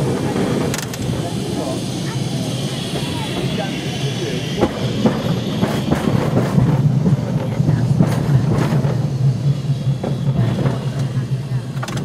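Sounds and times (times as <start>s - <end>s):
tram humming: 0.0s - 12.0s.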